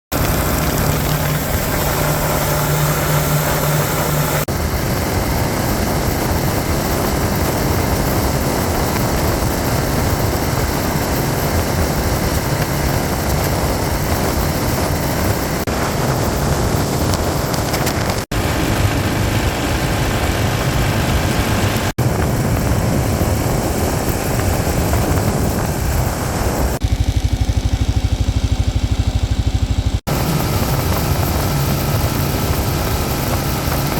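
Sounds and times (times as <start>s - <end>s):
wind on microphone: 0.1s - 26.9s, 30.1s - 33.9s
motorcycle engine: 0.1s - 33.9s.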